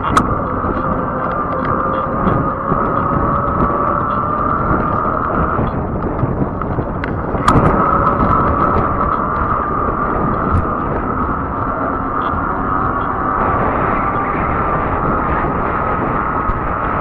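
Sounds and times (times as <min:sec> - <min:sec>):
electric hub motor whine: 0:00.0 - 0:17.0
wind on microphone: 0:00.0 - 0:17.0.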